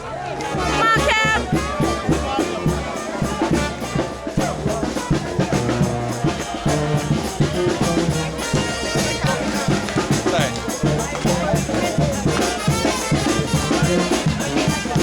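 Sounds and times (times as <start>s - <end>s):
brass band playing: 0.0s - 15.0s
bass drum and snare beats: 0.4s - 15.0s.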